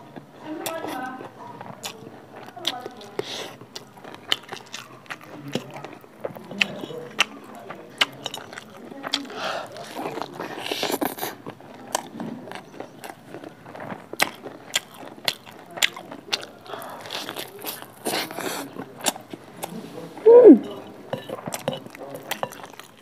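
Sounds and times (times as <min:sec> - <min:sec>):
wet chewing and biting: 0:00.0 - 0:23.0.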